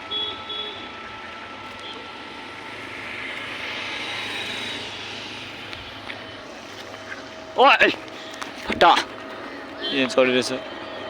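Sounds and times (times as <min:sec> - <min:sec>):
traffic passing: 0:00.0 - 0:11.0.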